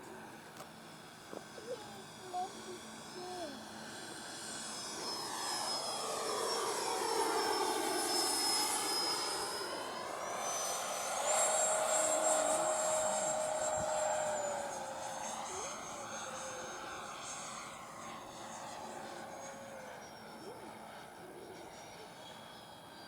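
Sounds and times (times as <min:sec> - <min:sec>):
rc jet fan whine: 0:00.0 - 0:23.0.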